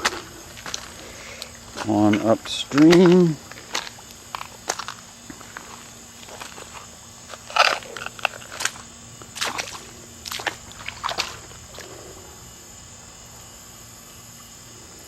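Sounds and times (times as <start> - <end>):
footsteps crunching on gravel: 0.0 - 12.2
high insect drone: 0.0 - 15.0.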